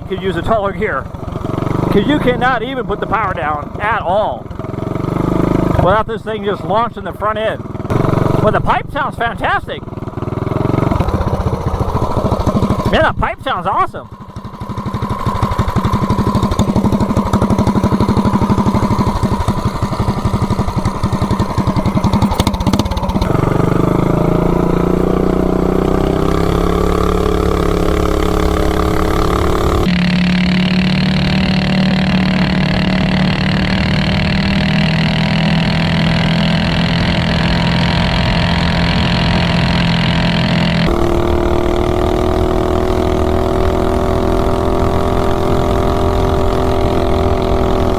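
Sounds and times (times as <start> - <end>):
minibike engine running hard: 0.0 - 47.9.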